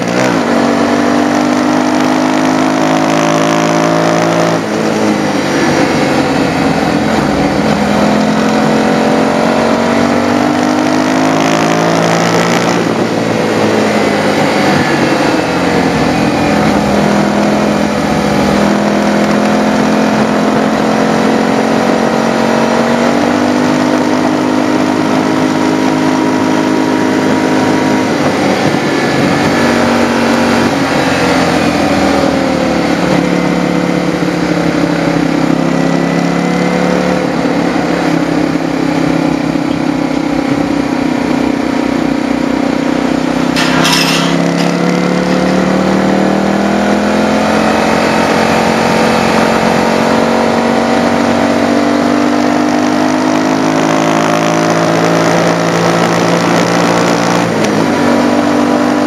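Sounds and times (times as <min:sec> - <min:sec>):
motorcycle engine revving: 0:00.0 - 0:59.0
wind noise: 0:03.4 - 0:53.0.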